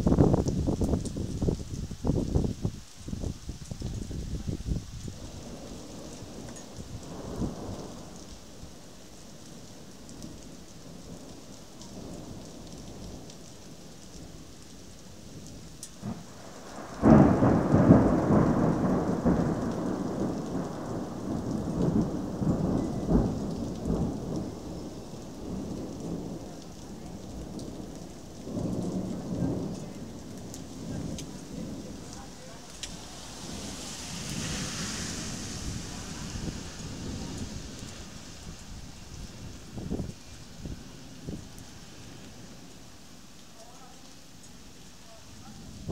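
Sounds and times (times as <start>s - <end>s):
thunder rumbling: 0.0s - 14.5s, 15.2s - 43.1s, 45.4s - 45.9s
rain hissing: 0.0s - 45.9s.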